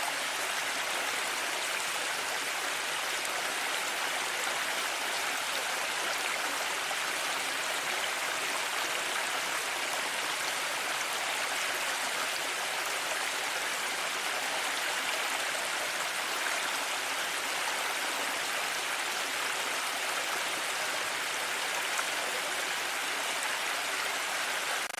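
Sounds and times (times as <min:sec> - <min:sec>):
running water rushing: 0:00.0 - 0:24.9.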